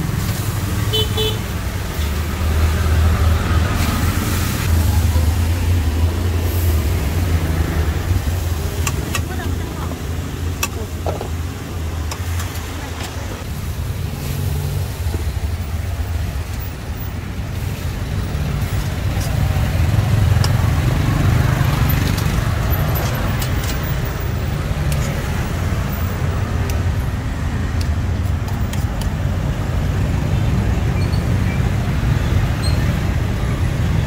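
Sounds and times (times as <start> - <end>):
vehicle engines rumbling: 0.0 - 34.0.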